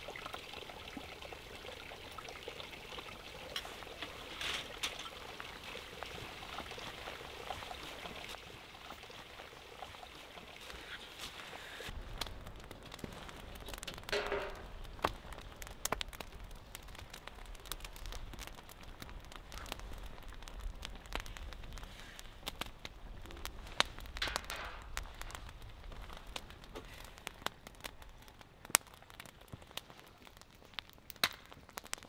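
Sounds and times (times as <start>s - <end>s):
fire hissing: 0.0s - 31.1s
fire crackling and popping: 0.0s - 32.0s.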